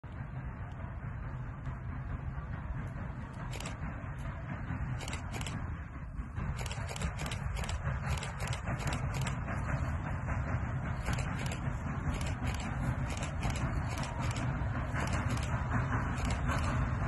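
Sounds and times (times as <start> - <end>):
steam locomotive exhaust chuffs: 0.0 - 17.0
steam locomotive rumble: 0.0 - 17.0.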